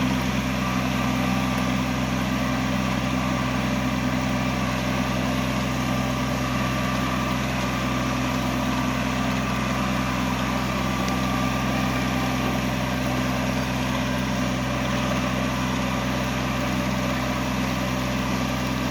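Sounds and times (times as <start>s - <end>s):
diesel tractor engine running: 0.0s - 18.9s.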